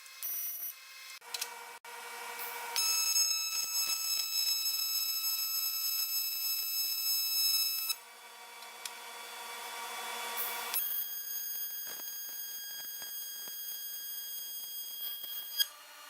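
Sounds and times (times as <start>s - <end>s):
high-pitched welding arc buzz: 0.0s - 16.0s.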